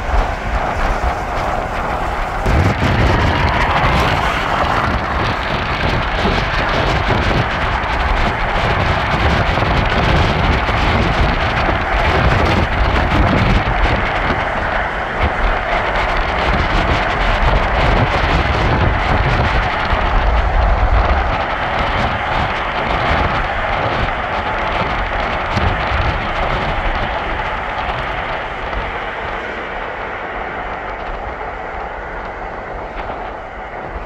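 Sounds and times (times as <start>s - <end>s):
moving vehicle rumble: 0.0s - 34.0s
wind buffeting microphone: 0.0s - 34.0s.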